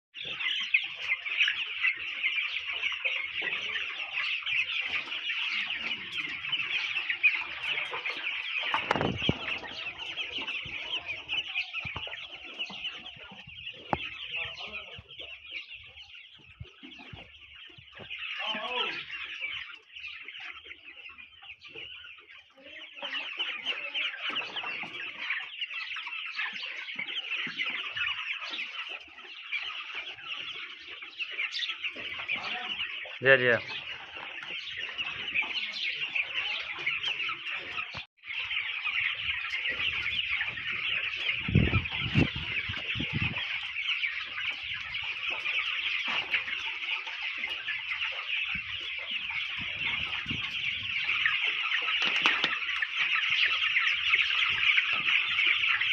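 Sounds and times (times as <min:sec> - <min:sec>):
chickens chirping and clucking: 0:00.2 - 0:55.9.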